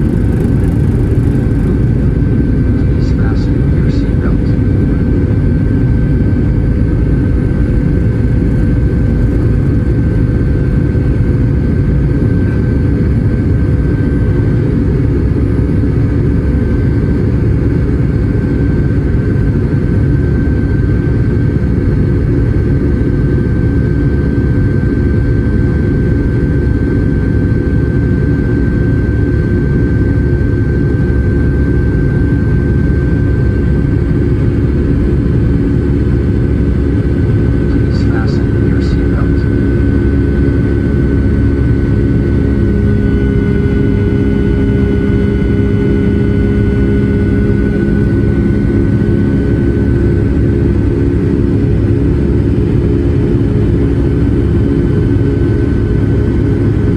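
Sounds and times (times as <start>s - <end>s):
high engine whine: 0.0s - 56.9s
jet engines droning in cabin: 0.0s - 56.9s.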